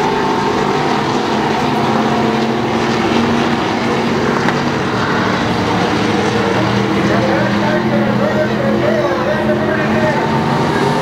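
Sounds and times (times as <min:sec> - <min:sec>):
stock car engines racing: 0:00.0 - 0:11.0.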